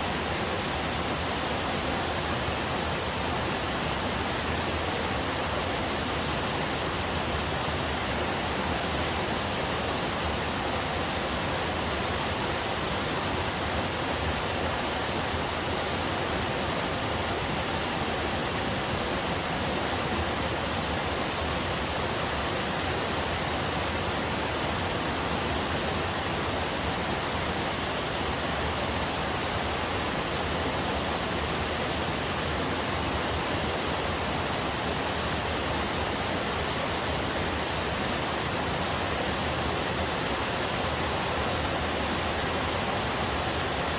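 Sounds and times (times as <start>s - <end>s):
water rushing over rocks: 0.0s - 43.9s.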